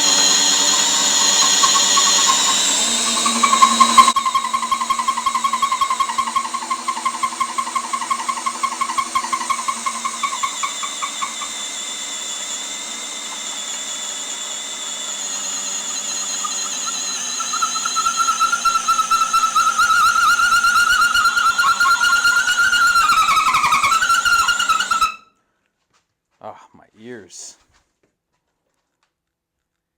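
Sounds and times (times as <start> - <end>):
power drill whining under load: 0.0 - 25.2.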